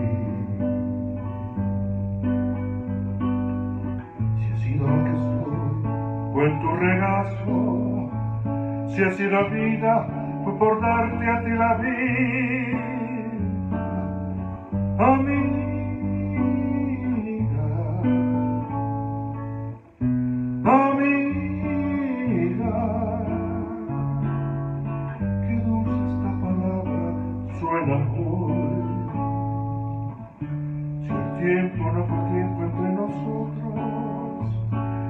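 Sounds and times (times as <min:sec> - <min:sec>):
acoustic guitar ballad music: 0:00.0 - 0:35.0
bass line: 0:00.0 - 0:35.0.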